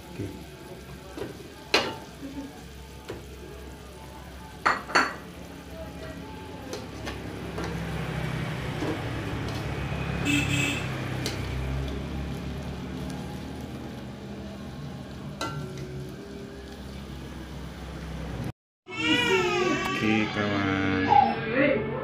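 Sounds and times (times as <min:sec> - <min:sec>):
eggs sizzling in oil: 0:00.0 - 0:18.5.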